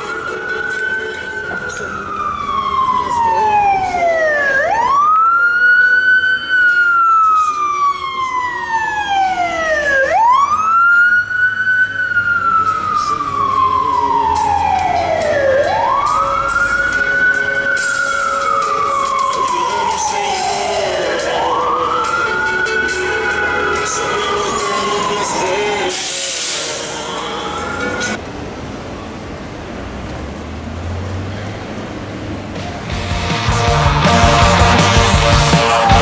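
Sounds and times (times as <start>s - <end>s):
emergency siren wailing: 0.0s - 36.0s.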